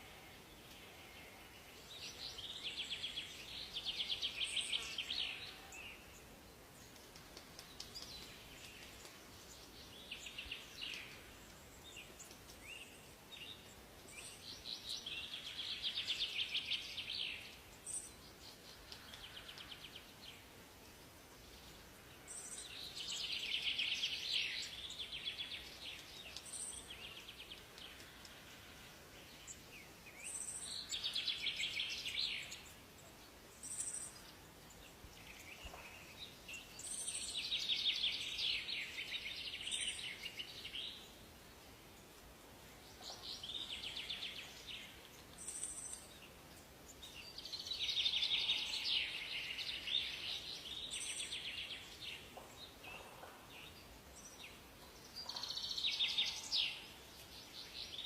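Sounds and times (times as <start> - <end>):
songbirds trilling: 7.6 - 42.2, 42.8 - 58.0.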